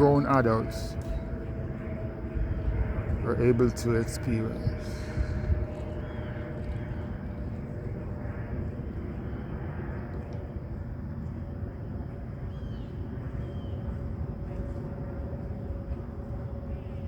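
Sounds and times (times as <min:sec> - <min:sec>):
faint steady hum: 0:00.0 - 0:17.0
low outdoor rumble: 0:00.0 - 0:17.0.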